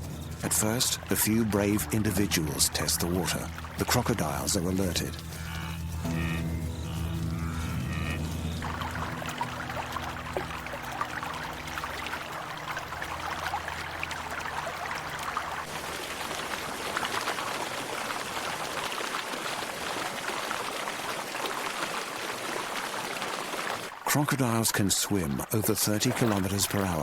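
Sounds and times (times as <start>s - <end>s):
small splashes of wading animals: 0.0s - 6.4s, 7.6s - 27.0s
river water trickling: 0.0s - 27.0s.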